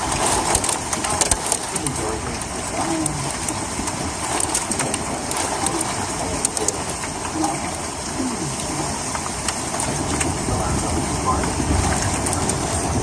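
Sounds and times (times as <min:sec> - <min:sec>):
hailstones striking hard surfaces: 0:00.0 - 0:13.0
heavy rain and hail: 0:00.0 - 0:13.0.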